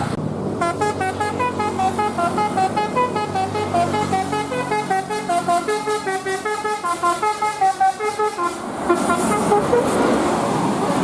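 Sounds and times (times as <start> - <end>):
bus musical horn tune: 0.6 - 10.0.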